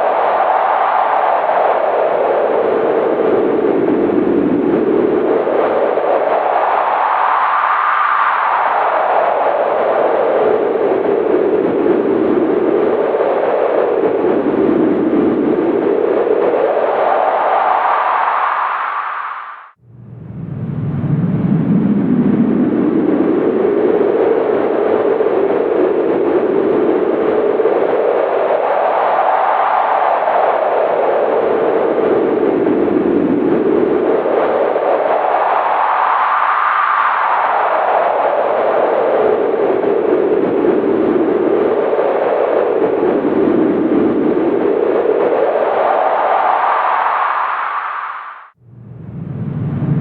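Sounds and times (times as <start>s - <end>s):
howling wind: 0.0s - 50.0s.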